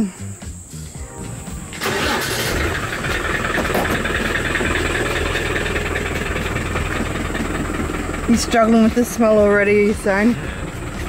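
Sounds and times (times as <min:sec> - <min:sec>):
vehicle engine running: 0:00.5 - 0:11.0.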